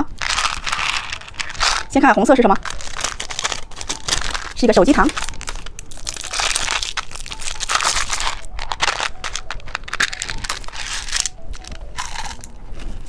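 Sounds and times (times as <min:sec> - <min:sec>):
candy wrapper crinkling: 0:00.0 - 0:13.0.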